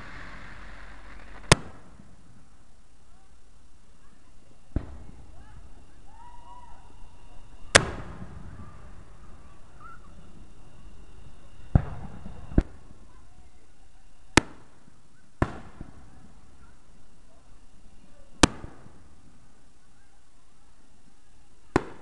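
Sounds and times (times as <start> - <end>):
fireworks bangs: 0.0 - 2.7, 3.8 - 13.6, 14.2 - 19.5, 21.7 - 22.0.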